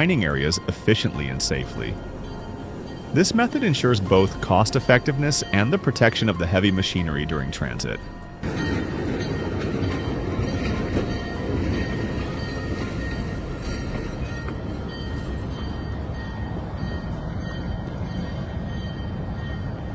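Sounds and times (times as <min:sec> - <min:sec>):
freight train rumbling on rails: 0:00.0 - 0:19.9.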